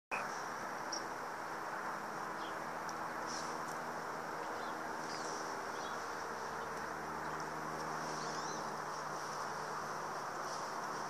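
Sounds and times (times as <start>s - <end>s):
small birds chirping: 0.1s - 1.3s, 2.0s - 11.0s
rushing background hiss: 0.1s - 11.0s.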